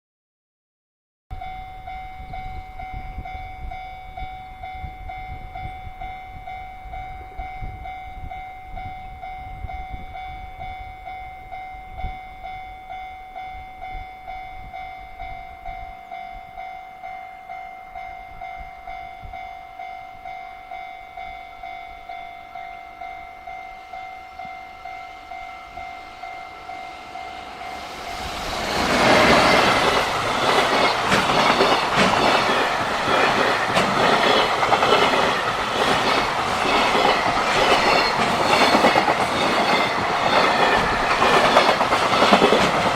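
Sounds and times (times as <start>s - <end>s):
level crossing warning bell: 1.3s - 42.9s
freight train passing: 1.4s - 42.9s.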